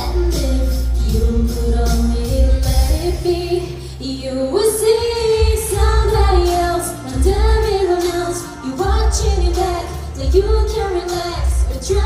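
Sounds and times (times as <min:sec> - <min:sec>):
amplified backing music: 0:00.0 - 0:12.0
woman singing into a microphone: 0:00.0 - 0:12.0.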